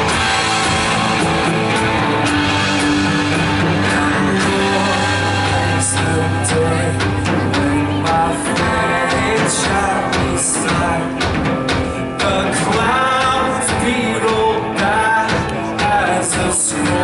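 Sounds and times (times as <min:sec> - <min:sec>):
live worship band playing: 0:00.0 - 0:17.0
steady drum beat: 0:00.0 - 0:17.0.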